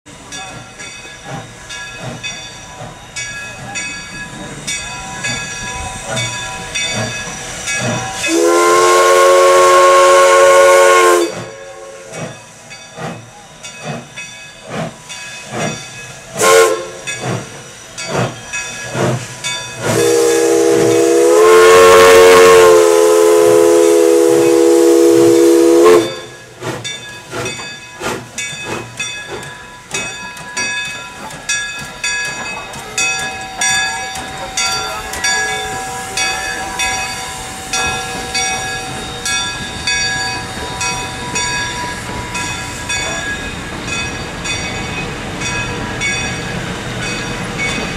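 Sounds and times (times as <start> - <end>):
hiss of steam: 0.1 - 47.9
steam locomotive chime whistle: 0.1 - 47.9.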